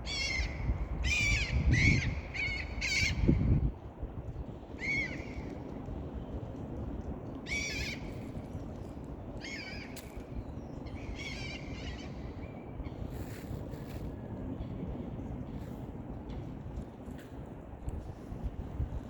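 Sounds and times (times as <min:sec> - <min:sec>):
low rumble of wind or water: 0:00.0 - 0:19.0.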